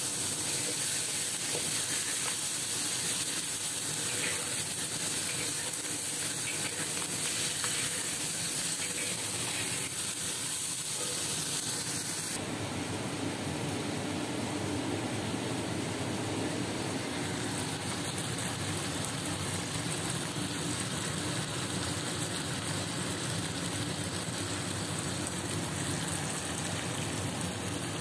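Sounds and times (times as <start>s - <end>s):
chicken sizzling in a wok: 0.0s - 12.4s, 16.7s - 28.0s.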